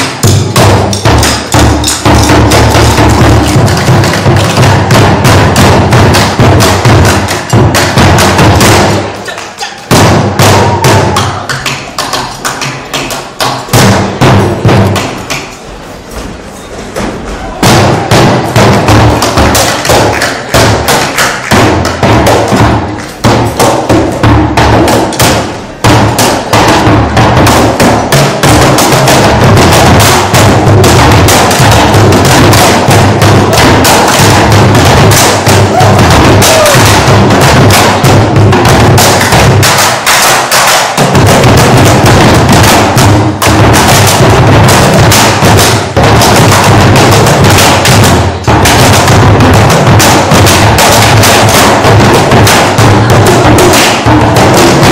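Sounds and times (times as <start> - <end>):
drumming on plastic bins: 0.0 - 15.6, 16.9 - 54.9.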